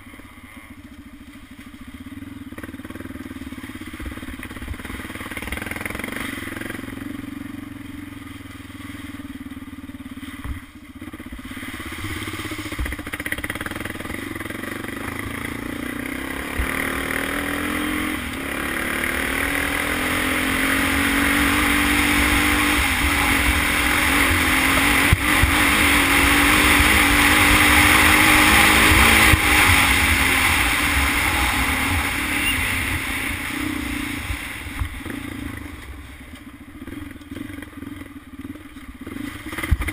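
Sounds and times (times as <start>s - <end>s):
quad bike engine accelerating: 0.0s - 39.9s.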